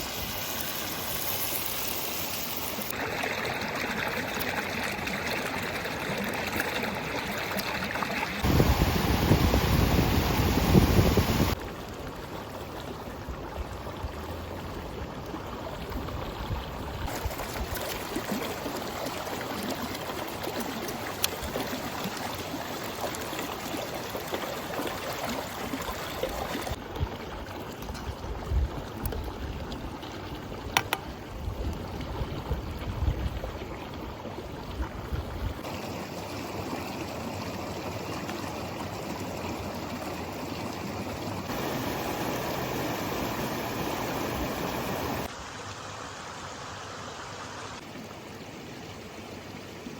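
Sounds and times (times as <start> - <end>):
stream water flowing: 0.0 - 49.9.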